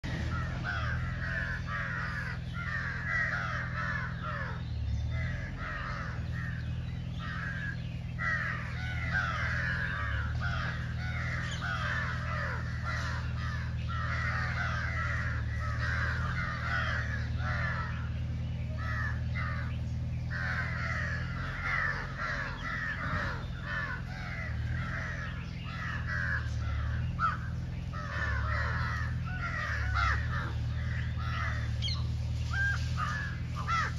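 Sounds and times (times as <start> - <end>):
many birds chattering: 0.0 - 33.9
steady low hum: 0.0 - 33.9.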